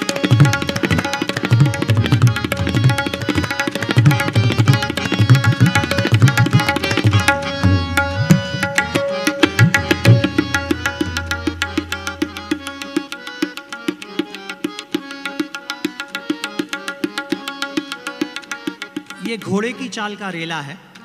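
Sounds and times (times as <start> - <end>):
tabla strokes: 0.0 - 19.7
harmonium tones: 0.0 - 21.0.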